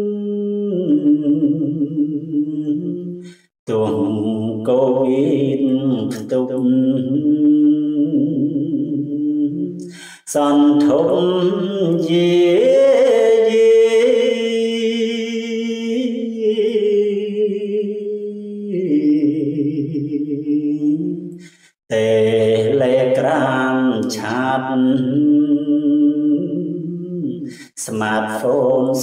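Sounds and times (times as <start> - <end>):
man chanting: 3.7 - 29.0.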